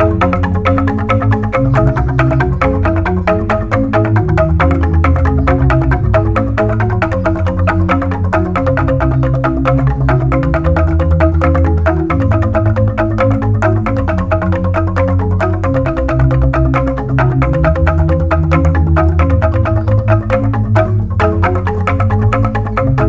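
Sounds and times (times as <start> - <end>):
bamboo marimba ensemble: 0.0 - 23.0.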